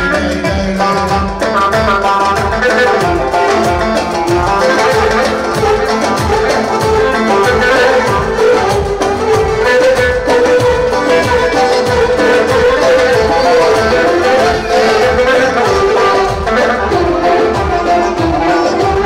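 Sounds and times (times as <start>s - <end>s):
plucked string music with beat: 0.0s - 19.0s.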